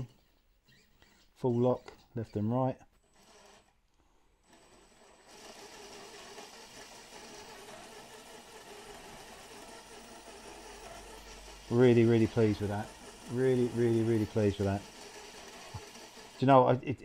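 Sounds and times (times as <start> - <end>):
faint electric motor whir: 0.0 - 17.0.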